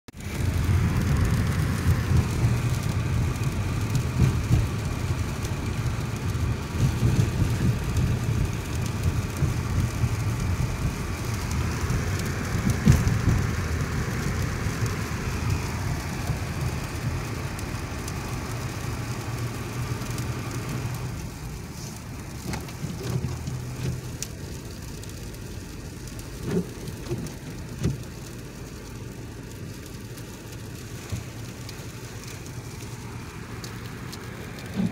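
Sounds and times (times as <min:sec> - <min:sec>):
low rumble: 0:00.1 - 0:28.3, 0:29.8 - 0:34.9.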